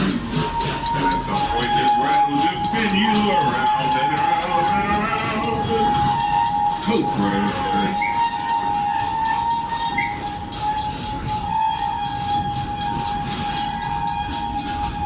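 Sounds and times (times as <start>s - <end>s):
low rumble of train: 0.0s - 15.0s
train two-note whine: 0.0s - 15.0s.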